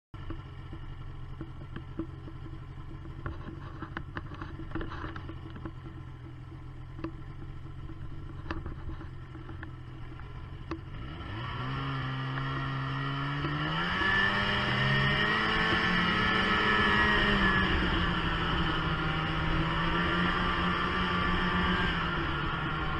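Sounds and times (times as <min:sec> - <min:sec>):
snowmobile engine: 0:00.5 - 0:22.9.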